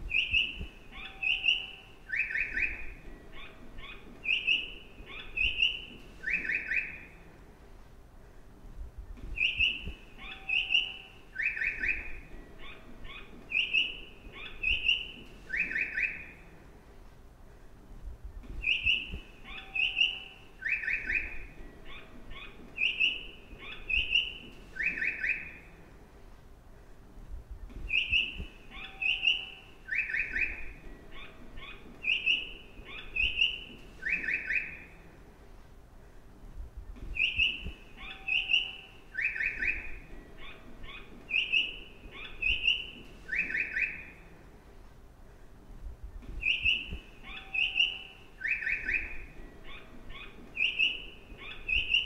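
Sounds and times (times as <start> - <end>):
recorded birdsong chirps and trills: 0.0 - 7.3, 9.2 - 16.6, 18.2 - 25.8, 27.5 - 35.2, 36.8 - 44.4, 46.0 - 52.0.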